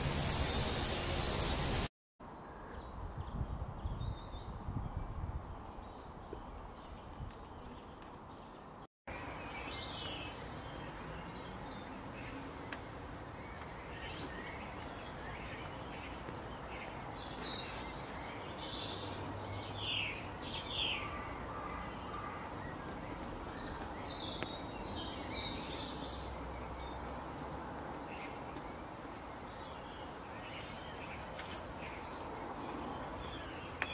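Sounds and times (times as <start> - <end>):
outdoor background hiss: 0.0 - 2.4, 5.5 - 33.9
birds chirping and singing: 0.0 - 12.8, 13.4 - 33.9.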